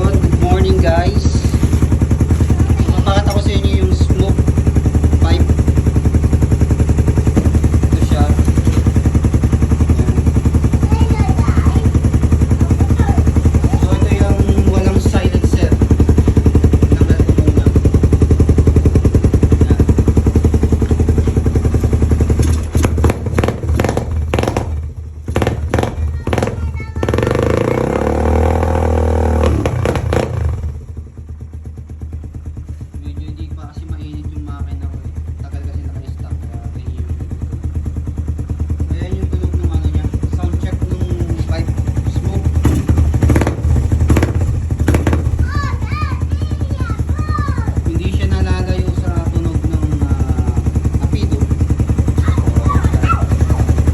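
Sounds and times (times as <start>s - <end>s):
engine idling through exhaust: 0.0s - 53.9s.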